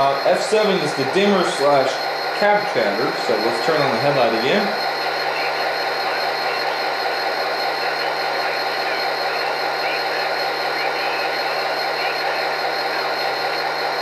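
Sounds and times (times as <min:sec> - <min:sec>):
model locomotive diesel idle sound: 0:00.0 - 0:14.0.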